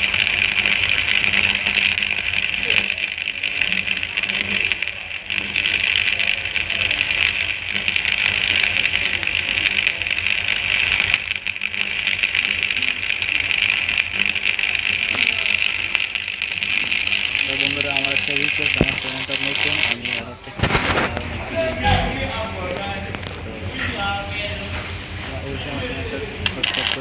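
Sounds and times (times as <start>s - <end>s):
arc welding crackling: 0.0s - 21.2s, 26.4s - 27.0s.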